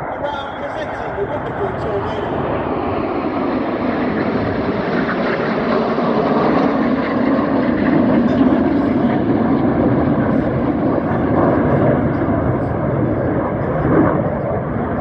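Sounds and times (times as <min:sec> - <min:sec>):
jet noise: 0:00.0 - 0:15.0.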